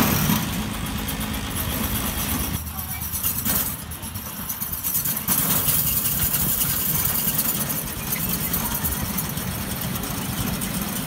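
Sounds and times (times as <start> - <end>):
small locomotive engine running: 0.0 - 11.0.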